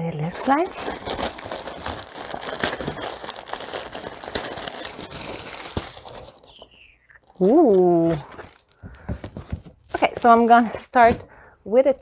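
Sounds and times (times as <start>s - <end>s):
cardboard packaging rustling: 0.0s - 11.2s.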